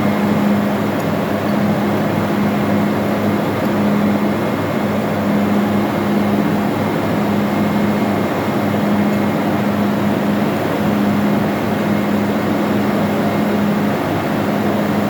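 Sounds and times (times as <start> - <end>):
engine-room machinery hum: 0.0 - 15.0.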